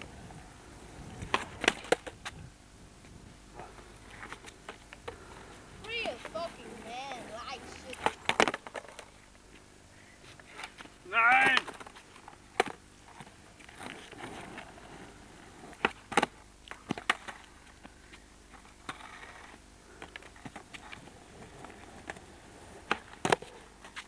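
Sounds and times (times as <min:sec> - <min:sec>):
faint skateboard wheels rolling: 0:00.0 - 0:24.0
skateboard clacking on asphalt: 0:01.0 - 0:02.4, 0:03.6 - 0:09.2, 0:10.4 - 0:24.0.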